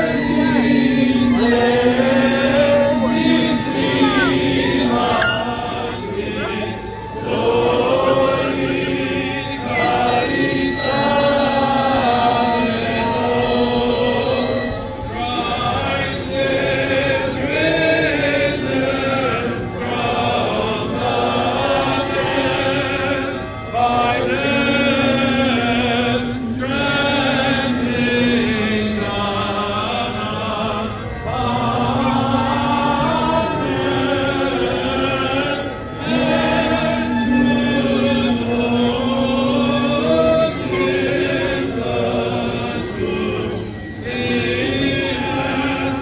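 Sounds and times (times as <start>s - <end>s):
low drone note: 0.0s - 30.5s, 31.2s - 46.0s
voices singing a chant: 0.0s - 46.0s.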